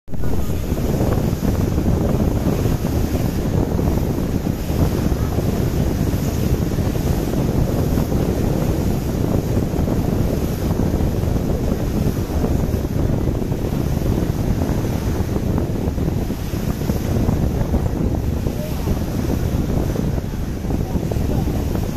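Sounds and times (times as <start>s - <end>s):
water rushing: 0.1s - 21.9s
wind buffeting microphone: 0.1s - 21.9s.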